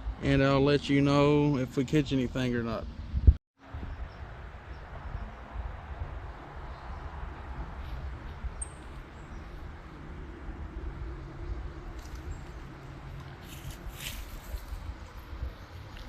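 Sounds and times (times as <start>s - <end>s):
wind noise on microphone: 2.8s - 16.0s.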